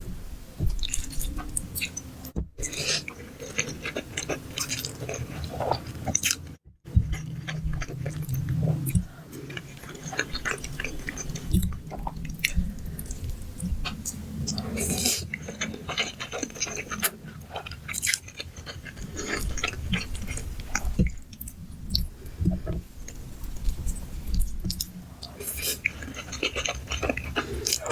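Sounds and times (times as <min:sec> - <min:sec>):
wet chewing and smacking: 0:02.6 - 0:27.9.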